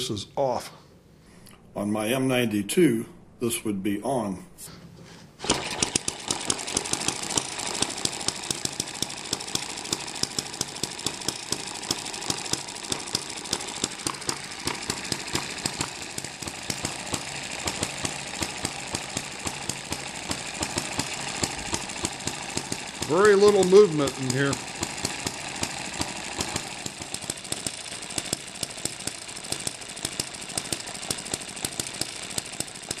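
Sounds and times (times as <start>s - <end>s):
mechanical clatter: 5.4s - 33.0s
small gas engine popping: 5.4s - 33.0s.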